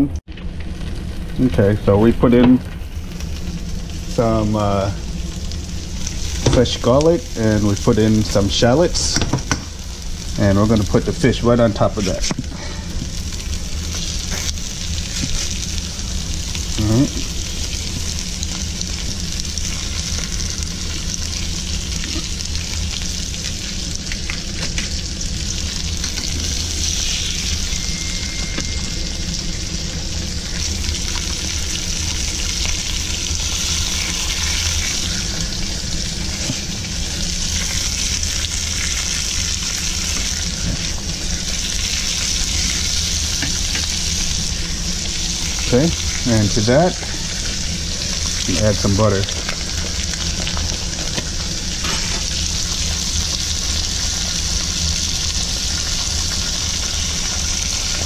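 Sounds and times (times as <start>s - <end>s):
oil sizzling in a frying pan: 0.3s - 58.0s.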